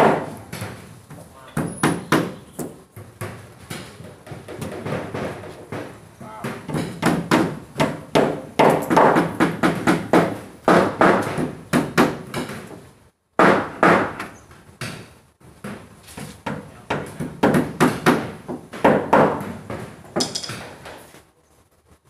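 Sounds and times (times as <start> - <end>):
hammer striking wood: 0.0 - 20.9.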